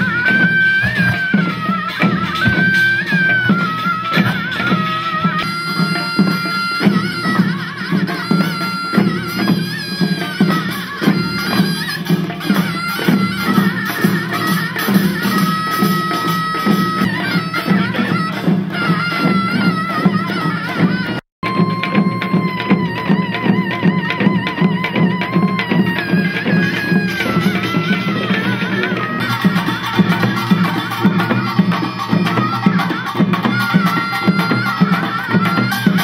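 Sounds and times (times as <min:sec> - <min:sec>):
shrill shawm melody: 0:00.0 - 0:36.0
steady drum beat: 0:00.0 - 0:36.0.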